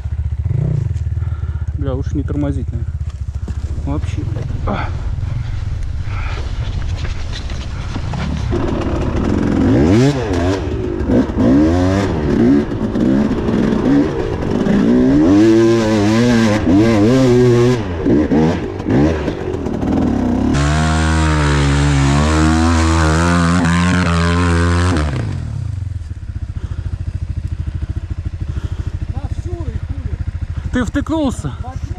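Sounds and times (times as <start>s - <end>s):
dirt bike engine revving: 0.0s - 31.1s.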